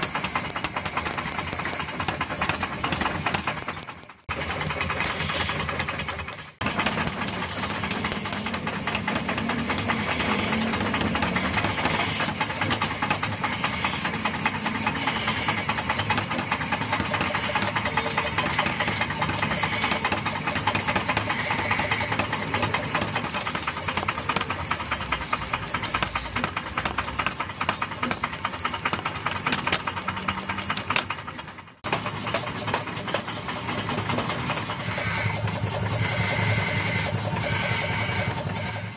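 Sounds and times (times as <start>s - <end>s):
power hammer knocking blows: 0.0s - 33.3s.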